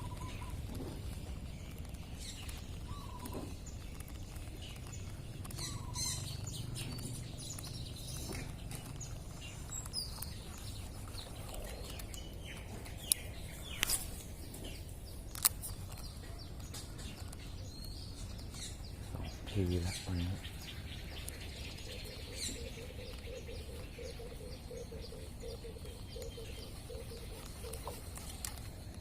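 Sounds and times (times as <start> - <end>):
birds chirping: 0.0 - 29.0
low outdoor rumble: 0.0 - 29.0.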